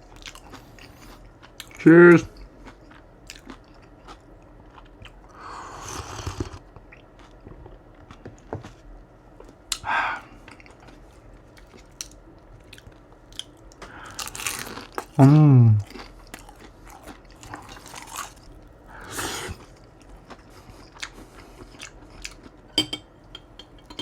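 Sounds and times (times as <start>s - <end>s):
chewing and crunching food: 0.0s - 22.7s.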